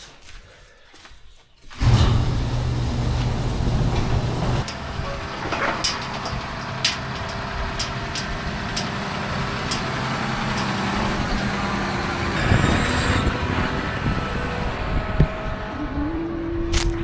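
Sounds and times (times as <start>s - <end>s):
engine running with low hum: 1.8s - 17.0s.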